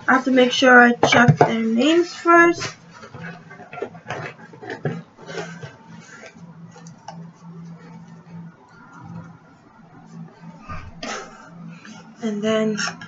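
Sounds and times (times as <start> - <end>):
low hum: 1.7 - 13.0.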